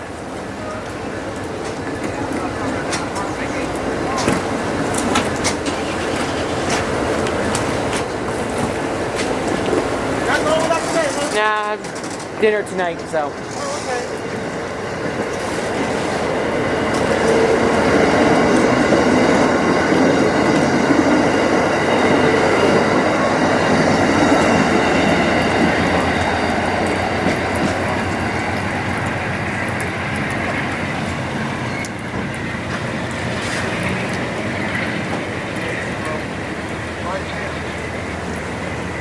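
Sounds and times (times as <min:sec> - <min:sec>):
train rolling past: 0:00.0 - 0:39.0.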